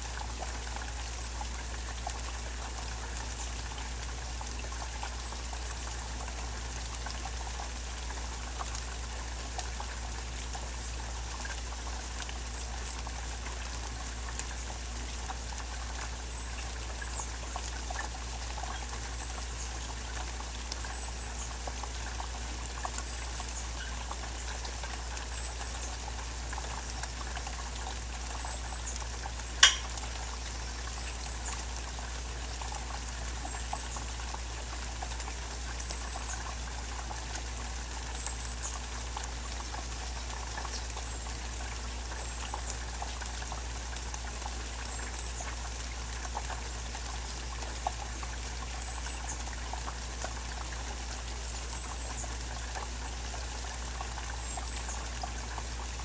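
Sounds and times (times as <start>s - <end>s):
steady rain: 0.0s - 29.6s, 30.5s - 56.0s
dripping ticks: 0.1s - 56.0s.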